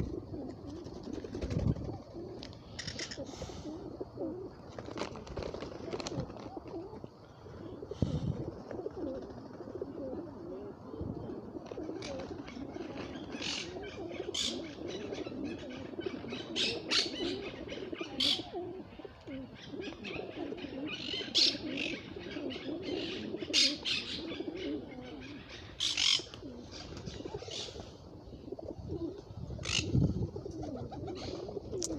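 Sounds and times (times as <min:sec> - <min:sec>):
birds cooing: 0:00.0 - 0:31.9.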